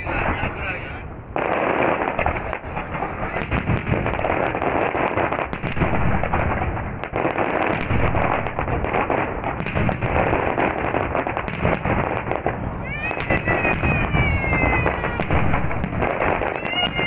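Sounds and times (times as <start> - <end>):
fireworks crackling: 0.0 - 17.0
fireworks shells bursting: 1.3 - 17.0.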